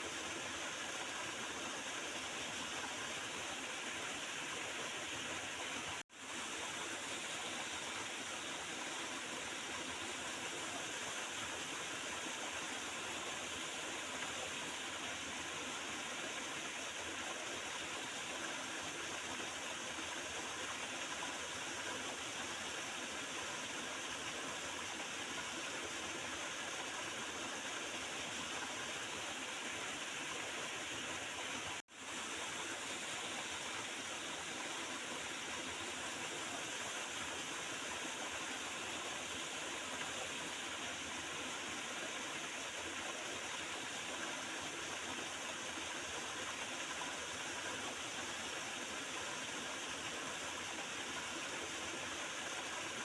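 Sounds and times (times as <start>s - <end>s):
small river gurgling and rushing: 0.0s - 53.0s.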